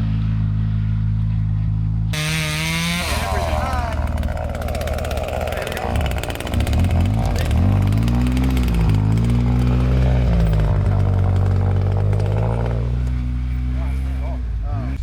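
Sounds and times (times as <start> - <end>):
vehicle engine revving: 2.1 - 15.0.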